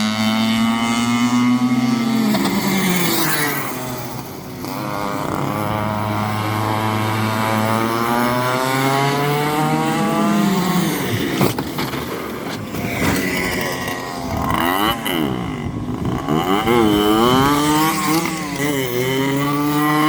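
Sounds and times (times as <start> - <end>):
go-kart engine revving: 0.0 - 20.0.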